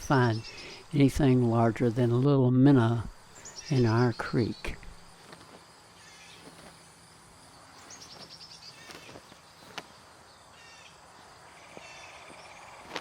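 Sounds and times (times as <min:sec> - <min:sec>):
songbirds singing trills: 0:00.0 - 0:13.0
steady outdoor hiss: 0:00.0 - 0:13.0.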